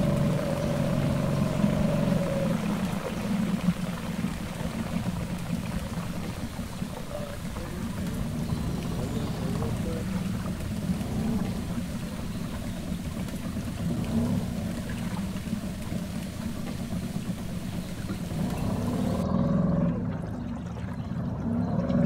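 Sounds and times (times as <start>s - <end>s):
boat motor running: 0.0s - 22.0s
water splashing along hull: 0.0s - 22.0s.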